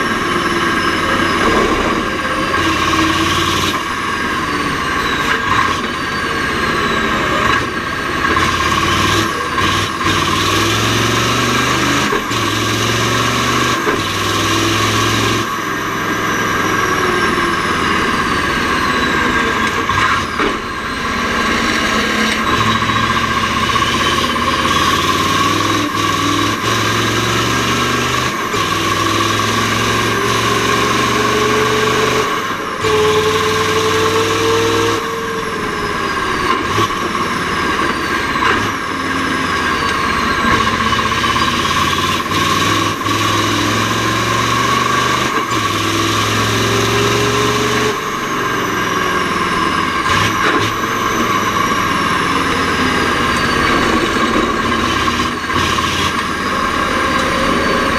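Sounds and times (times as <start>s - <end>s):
truck engine running under load: 0.0s - 57.9s.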